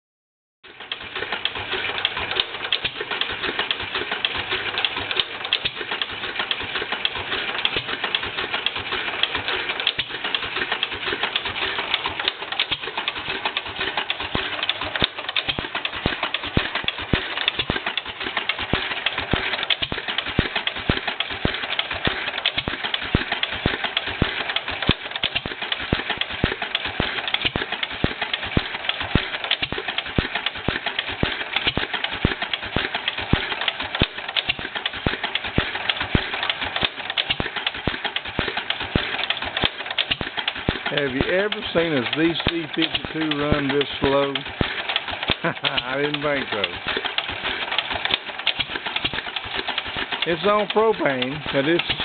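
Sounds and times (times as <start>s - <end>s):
stationary engine running slowly: 0.6s - 52.0s
sharp mechanical clicks: 0.7s - 52.0s.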